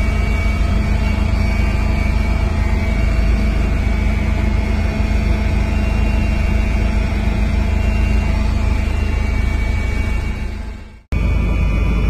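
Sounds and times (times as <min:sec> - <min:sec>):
aircraft engine in cabin: 0:00.0 - 0:12.0
faint steady tones: 0:00.0 - 0:12.0.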